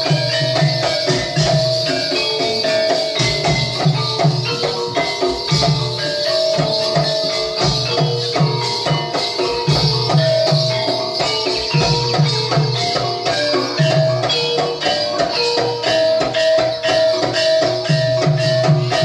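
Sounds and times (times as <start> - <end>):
drum beating quick pattern: 0.0 - 19.0
shaken percussion rattle: 0.0 - 19.0.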